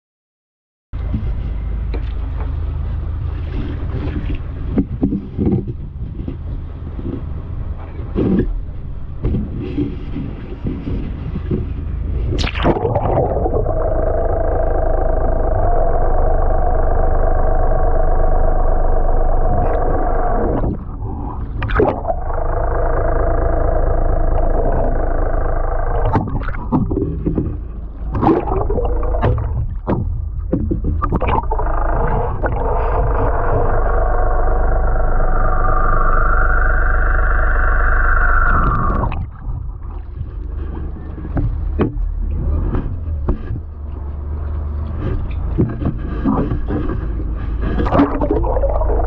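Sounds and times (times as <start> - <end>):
muffled underwater engine drone: 1.0 - 49.0
water splashing and gurgling: 3.0 - 49.0.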